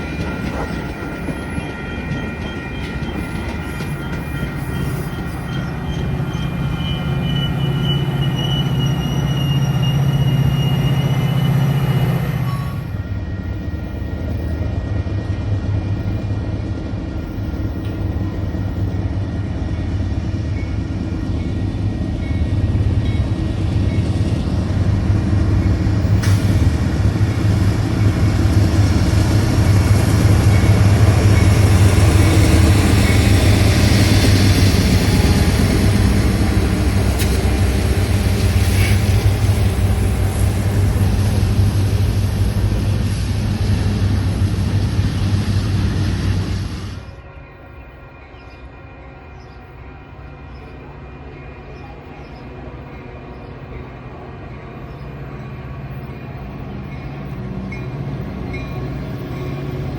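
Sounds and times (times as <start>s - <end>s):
train engine drone: 0.0s - 59.9s.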